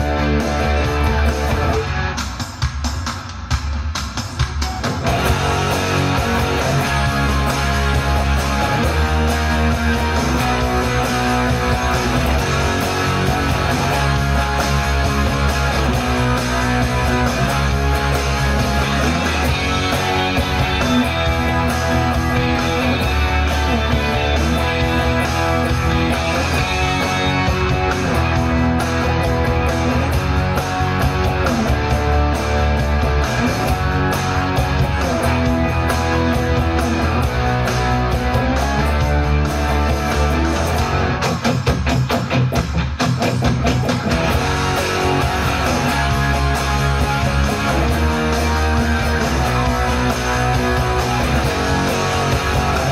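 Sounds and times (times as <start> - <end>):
electric guitar: 0.0 - 52.9
rock backing track: 0.0 - 52.9.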